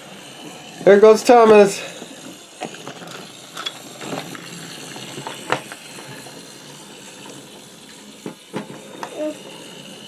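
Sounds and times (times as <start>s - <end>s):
toy train motor whirring: 0.0s - 10.0s.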